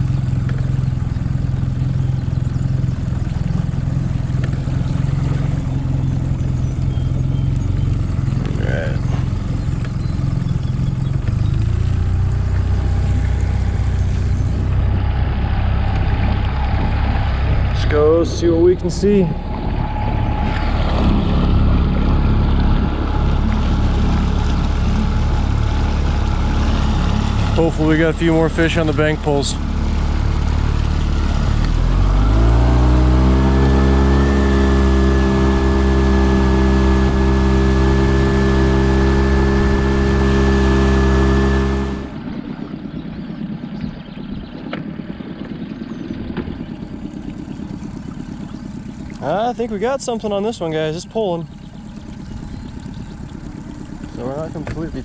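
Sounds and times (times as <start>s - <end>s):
water rushing: 0.0s - 43.8s, 44.6s - 55.0s
outboard motor running: 0.0s - 55.0s.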